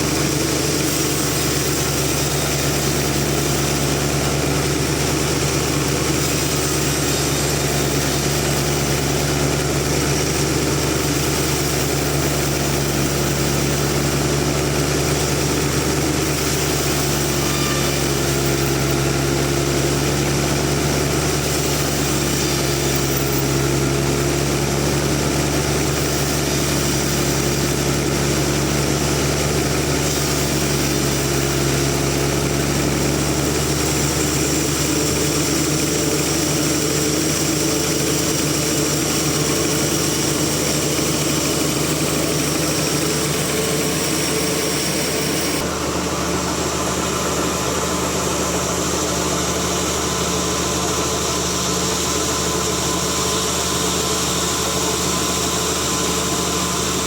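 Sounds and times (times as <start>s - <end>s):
sawmill machine humming: 0.0s - 57.0s.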